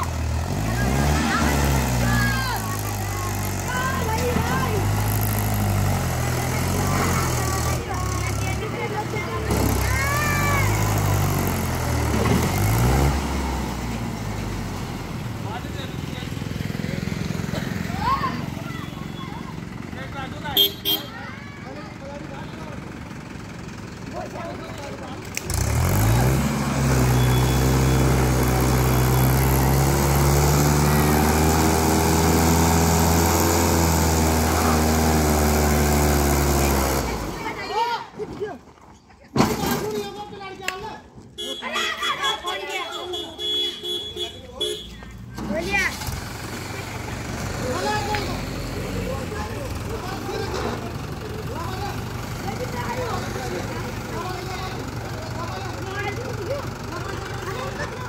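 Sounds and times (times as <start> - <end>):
diesel tractor engine labouring: 0.0 - 40.3, 43.4 - 58.0.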